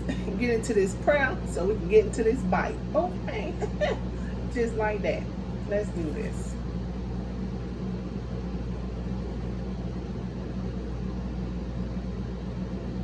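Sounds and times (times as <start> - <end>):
appliance hum with hiss: 0.0 - 13.0.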